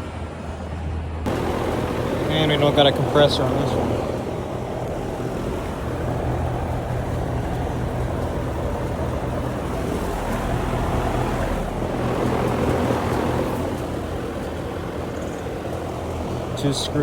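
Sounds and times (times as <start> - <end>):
fan whoosh: 1.3 - 17.0
low electrical hum: 1.3 - 17.0.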